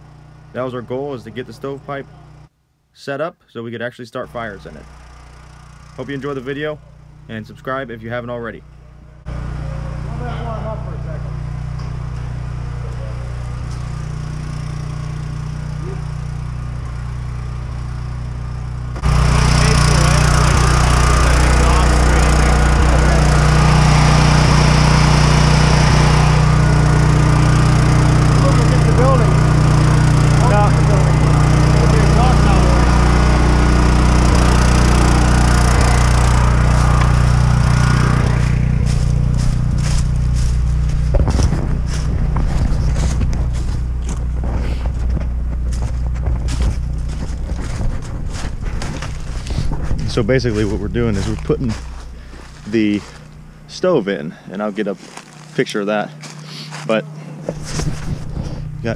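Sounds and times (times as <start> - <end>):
low motor hum: 0.0 - 2.5, 4.2 - 58.9
harsh cutting noise: 4.2 - 58.9.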